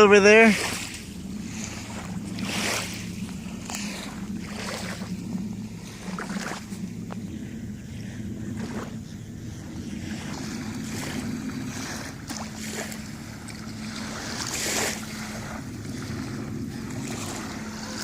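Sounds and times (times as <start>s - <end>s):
small waves washing on beach: 0.0s - 18.0s
steady low hum: 0.0s - 18.0s
wind on microphone: 0.0s - 18.0s.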